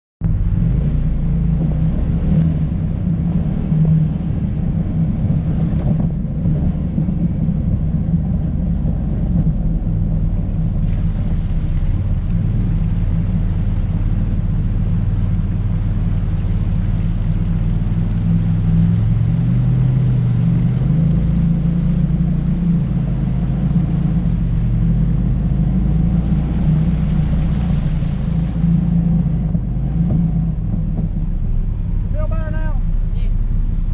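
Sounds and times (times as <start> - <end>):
vehicle engine low rumble: 0.2 - 33.9.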